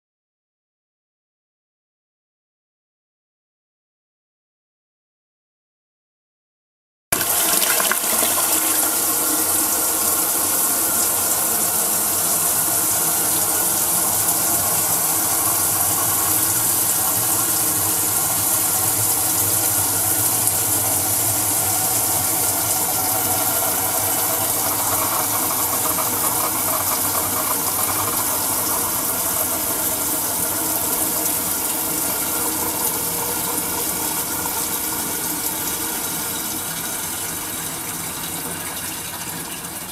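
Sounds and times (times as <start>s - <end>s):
toilet flushing: 7.1s - 39.9s.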